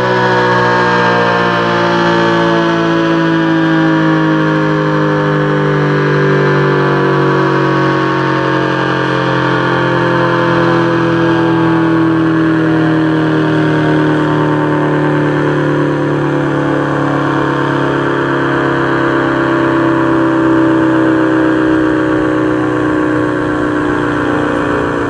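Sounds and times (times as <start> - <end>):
tornado siren steady tone: 0.0 - 25.0.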